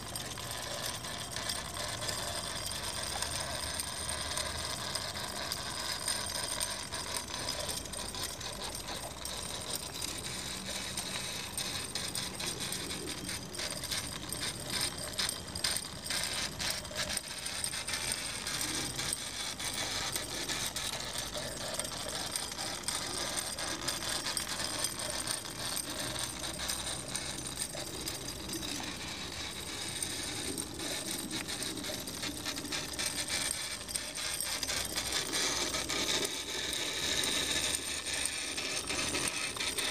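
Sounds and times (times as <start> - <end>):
toy steam engine clicking and rattling: 0.0 - 39.9.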